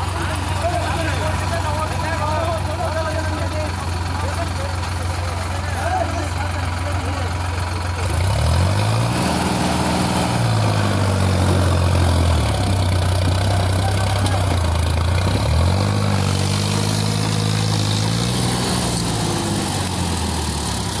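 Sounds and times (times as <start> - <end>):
tractor diesel engine straining: 0.0 - 21.0.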